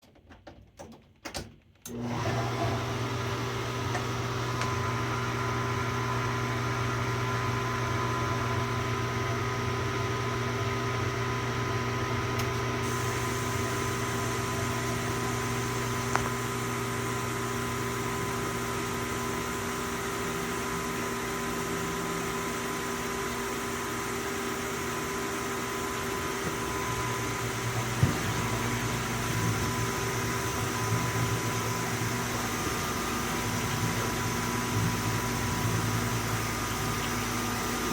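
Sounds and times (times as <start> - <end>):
dishwasher motor humming: 1.9 - 37.9.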